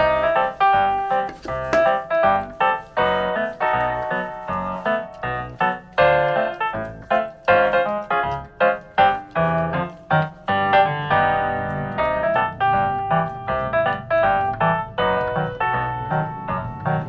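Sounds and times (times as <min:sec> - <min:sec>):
bouncy keyboard tune: 0:00.0 - 0:17.0.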